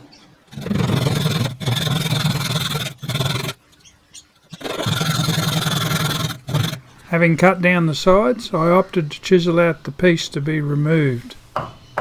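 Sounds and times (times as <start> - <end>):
power saw cutting wood: 0.5 - 3.6, 4.6 - 11.4.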